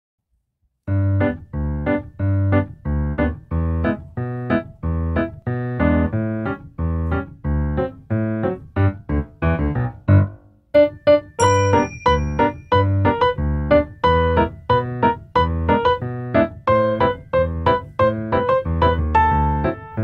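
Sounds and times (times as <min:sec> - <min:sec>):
bouncy piano music: 0:00.9 - 0:20.0.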